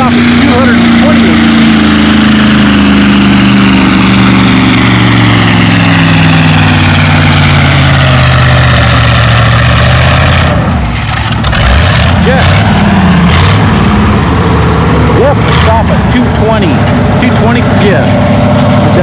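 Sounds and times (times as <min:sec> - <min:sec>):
tractor engine working hard: 0:00.0 - 0:19.0.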